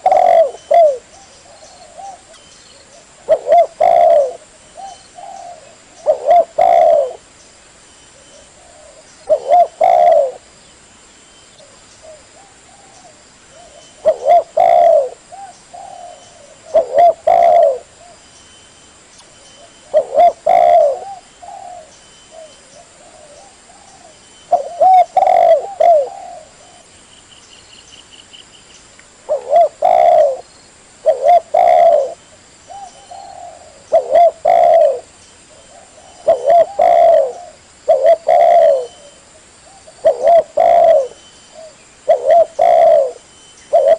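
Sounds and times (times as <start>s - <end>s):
dove cooing: 0.0s - 7.3s, 8.2s - 10.4s, 11.6s - 18.2s, 19.6s - 26.9s, 29.3s - 43.9s.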